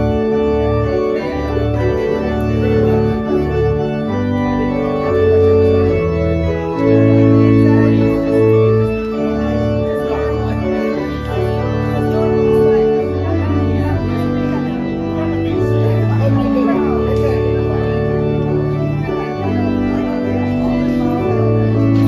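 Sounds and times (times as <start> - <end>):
church organ playing chords: 0.0 - 22.0.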